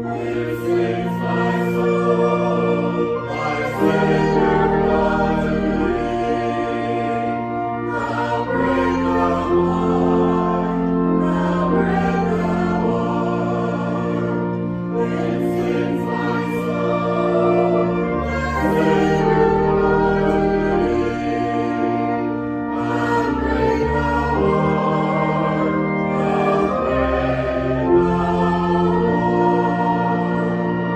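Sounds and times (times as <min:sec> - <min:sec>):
choir singing a slow hymn: 0:00.0 - 0:30.9.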